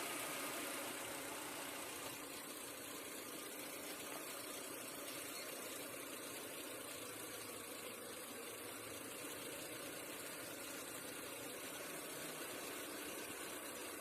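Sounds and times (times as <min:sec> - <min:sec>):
car engine idling: 0:00.0 - 0:14.0
steady hiss: 0:00.0 - 0:14.0.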